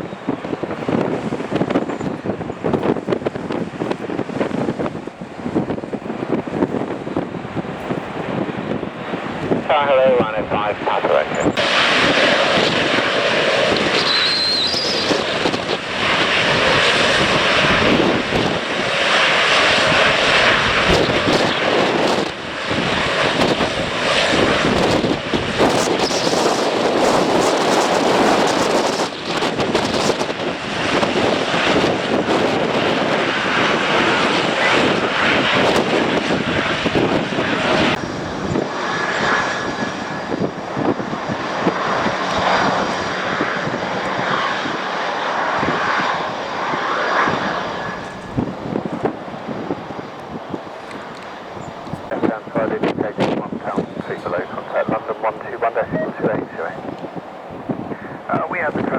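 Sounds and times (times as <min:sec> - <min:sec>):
airliner engines running: 0:00.0 - 0:58.9
wind buffeting microphone: 0:00.0 - 0:58.9.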